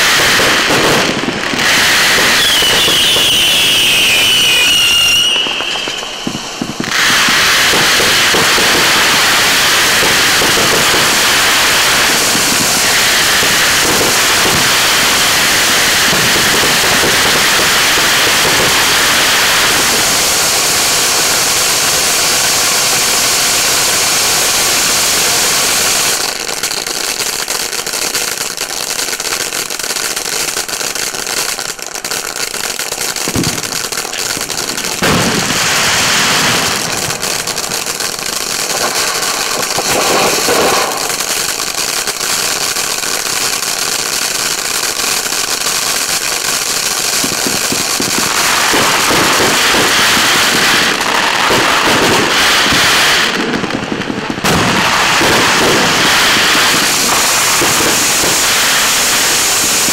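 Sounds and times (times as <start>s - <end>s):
firework fountain hissing and crackling: 0.0s - 59.9s.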